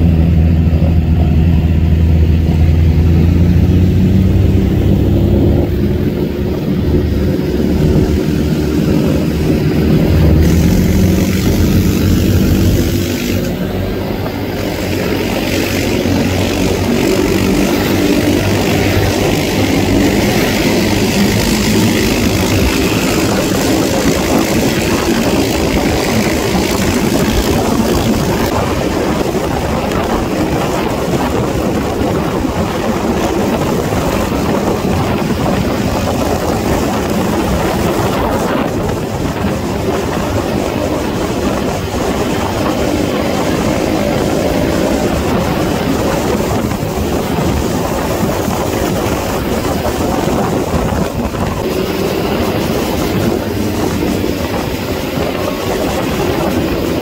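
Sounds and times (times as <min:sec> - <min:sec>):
motorcycle engines running: 0:00.0 - 0:57.0
wind and road noise: 0:00.0 - 0:57.0.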